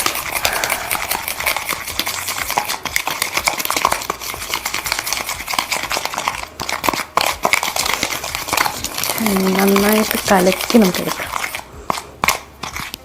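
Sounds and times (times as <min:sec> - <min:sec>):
gritty slime being stirred: 0:00.0 - 0:13.0.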